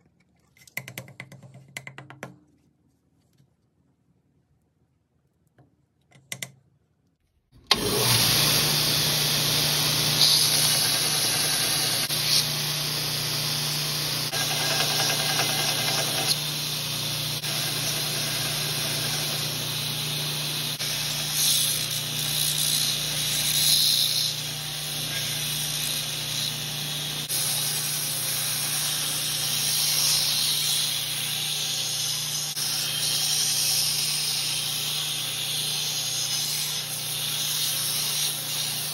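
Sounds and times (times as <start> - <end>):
belt grinder grinding: 7.7 - 38.9.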